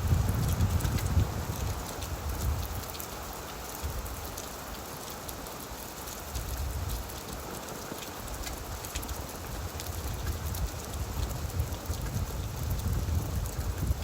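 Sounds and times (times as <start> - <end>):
rain falling on leaves: 0.0 - 14.0.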